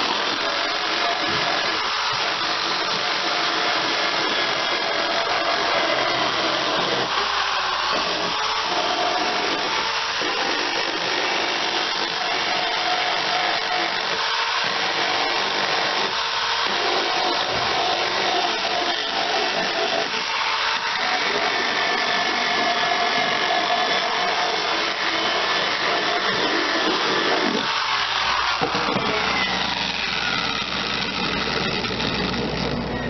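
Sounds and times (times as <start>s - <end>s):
power tool whirring: 0.0s - 33.0s.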